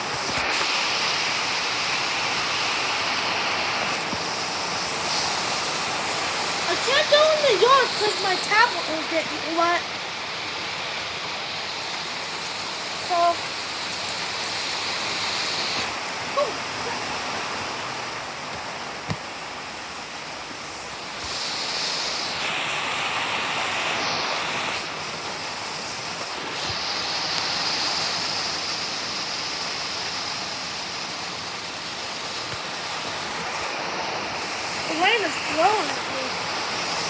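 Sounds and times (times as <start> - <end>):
heavy rain drumming on a metal roof: 0.0 - 37.0
wind gusting: 0.0 - 37.0.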